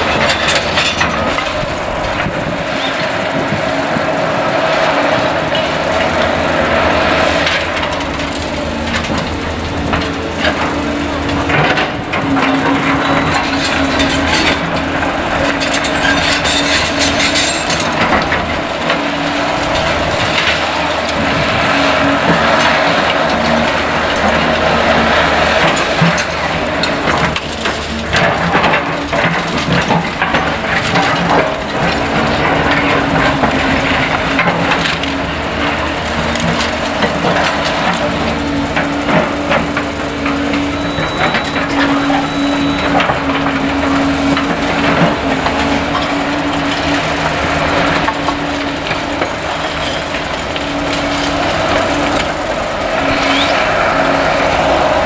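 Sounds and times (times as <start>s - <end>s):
excavator diesel engines running: 0.0s - 55.0s
rubble and timber cracking: 0.0s - 55.0s.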